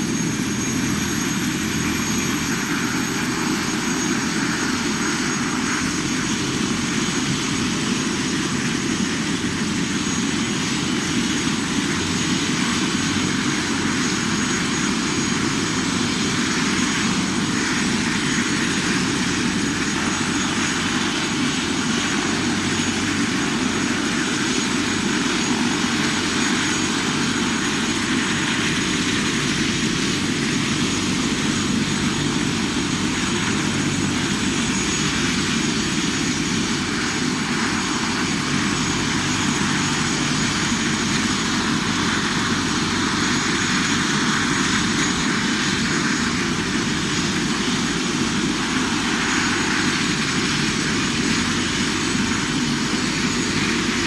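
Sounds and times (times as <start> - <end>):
helicopter rotor turning: 0.0 - 54.0.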